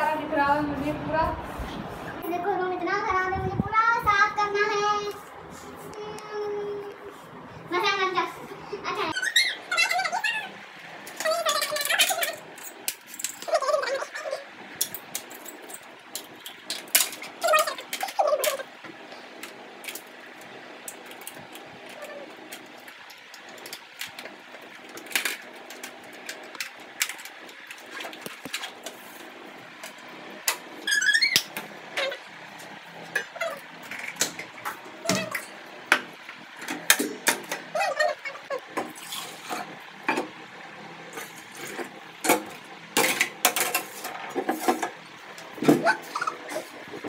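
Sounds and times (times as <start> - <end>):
steady low room hum: 0.0 - 47.0.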